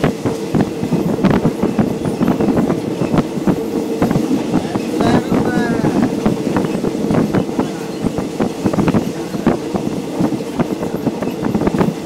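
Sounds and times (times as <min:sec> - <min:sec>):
train rumble inside carriage: 0:00.0 - 0:12.0
wheels knocking and rattling: 0:00.0 - 0:12.0.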